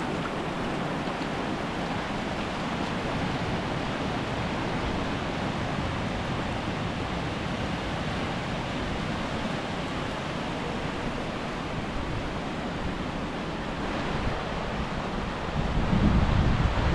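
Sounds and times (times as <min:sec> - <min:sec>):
waves washing onto shore: 0:00.0 - 0:16.9.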